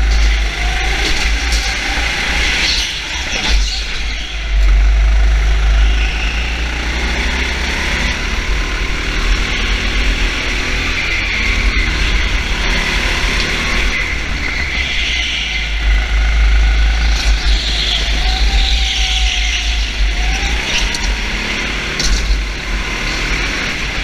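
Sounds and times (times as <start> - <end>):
heavy low rumble: 0.0 - 23.0
vehicle engine running: 0.0 - 24.0.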